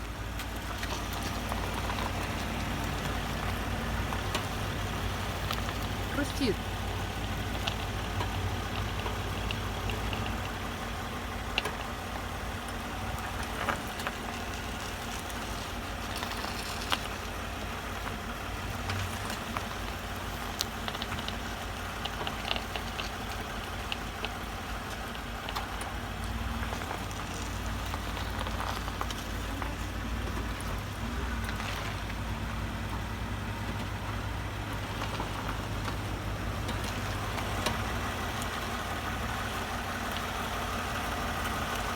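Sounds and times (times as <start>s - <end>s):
low engine hum: 0.0s - 41.9s
suspension clicks and crunches: 0.0s - 41.9s.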